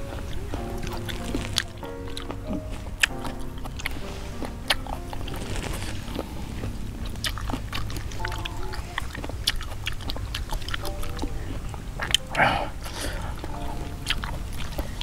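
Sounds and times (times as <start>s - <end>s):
low steady rumble: 0.0s - 15.0s
people chewing: 0.0s - 15.0s
small sharp clicks and crunches: 0.2s - 12.3s.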